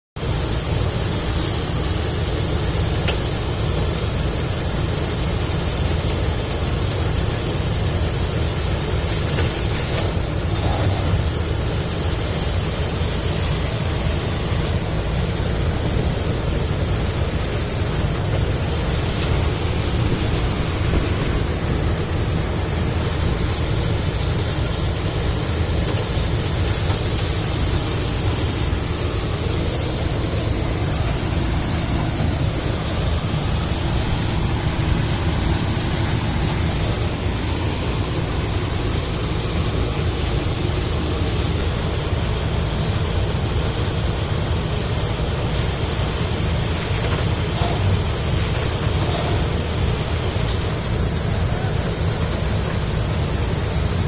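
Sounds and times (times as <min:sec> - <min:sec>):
hissing noise: 0:00.2 - 0:54.0
tractor diesel engine running: 0:00.2 - 0:54.0.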